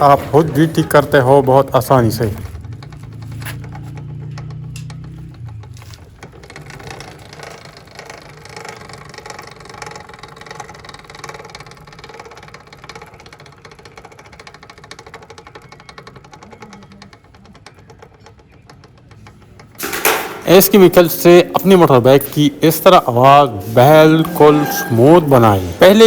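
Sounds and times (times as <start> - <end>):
motorcycle engine ticking rattle: 0.0 - 26.0.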